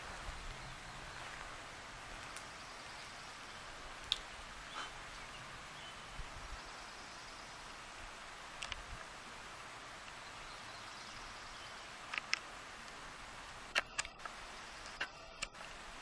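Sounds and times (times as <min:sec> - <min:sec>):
faint outdoor hiss: 0:00.0 - 0:16.0.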